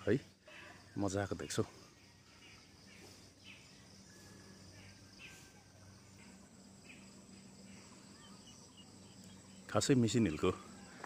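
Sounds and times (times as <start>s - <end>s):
faint chirps: 0.0s - 11.0s
high insect buzz: 0.0s - 11.0s.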